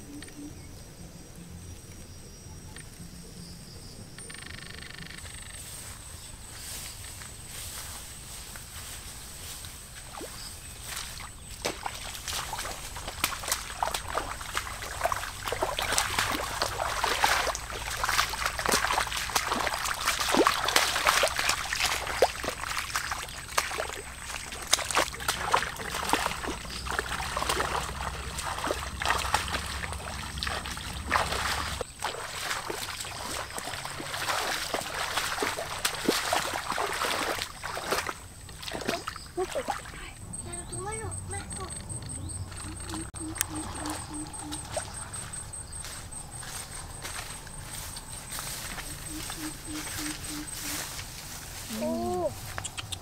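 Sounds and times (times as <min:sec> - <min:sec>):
bare feet wading through water: 0:06.6 - 0:53.0.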